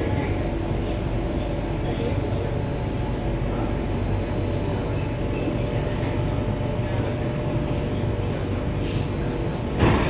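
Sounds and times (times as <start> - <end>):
rumble of train wheels on rail: 0.0 - 10.0.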